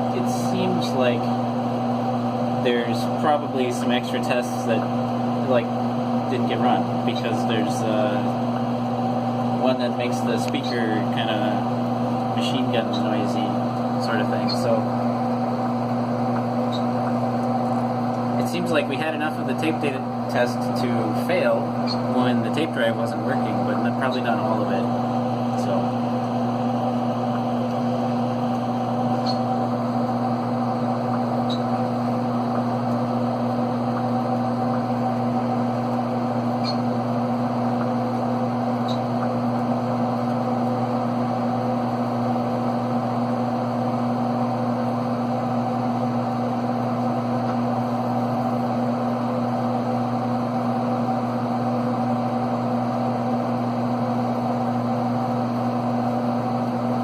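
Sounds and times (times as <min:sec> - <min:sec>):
computer fan noise: 0:00.0 - 0:57.0.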